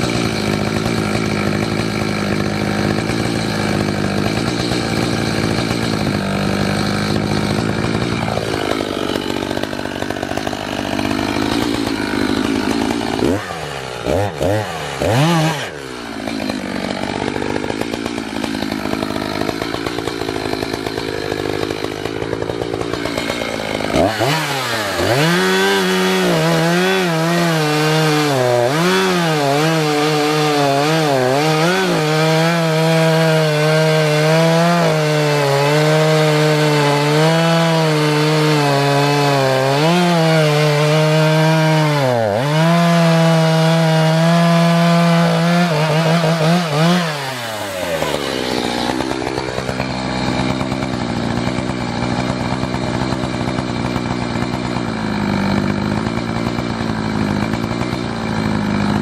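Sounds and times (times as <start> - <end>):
chainsaw idling and cutting log: 0.0 - 59.0.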